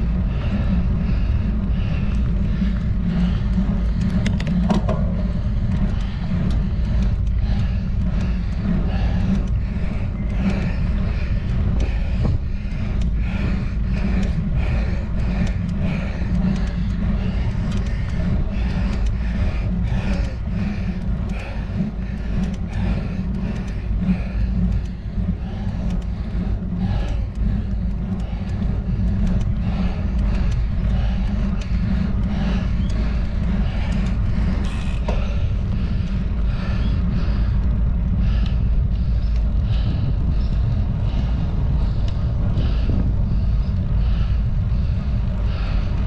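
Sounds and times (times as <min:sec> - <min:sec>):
wind and road rumble: 0:00.0 - 0:46.0
small clicks: 0:00.4 - 0:37.8.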